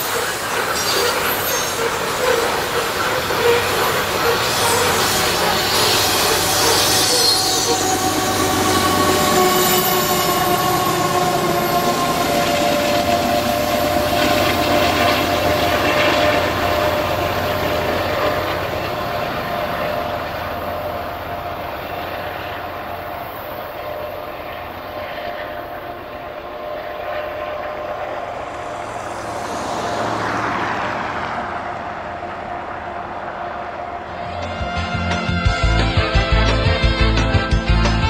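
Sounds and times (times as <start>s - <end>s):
diesel locomotives: 0.0s - 38.0s
steady whining tone: 0.0s - 38.0s
train wheels rumbling on rails: 0.0s - 38.0s.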